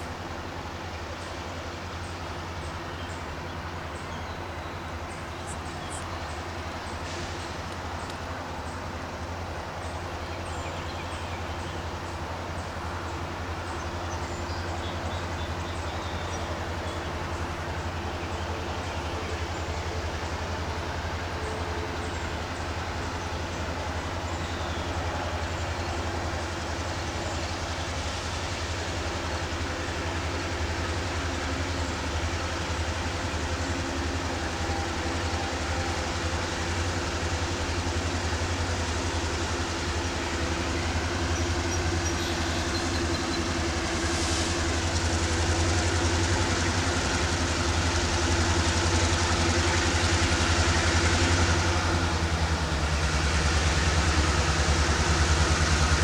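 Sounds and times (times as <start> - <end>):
diesel locomotive engine humming: 0.0 - 56.0.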